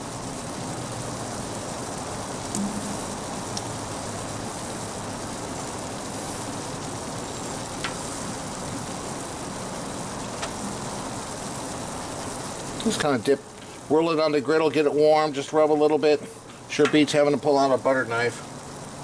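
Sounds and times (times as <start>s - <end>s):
patties sizzling on griddle: 0.0s - 19.0s.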